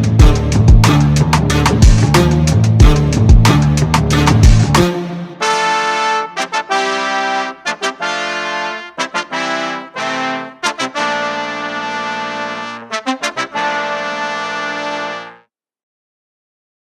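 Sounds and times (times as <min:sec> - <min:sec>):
brass ensemble playing chords: 0:00.0 - 0:15.5.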